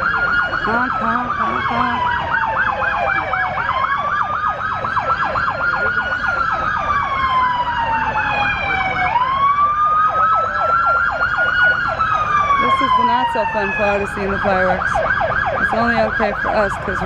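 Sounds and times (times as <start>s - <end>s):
siren fast yelp: 0.0s - 17.0s
siren slow wail: 0.0s - 17.0s.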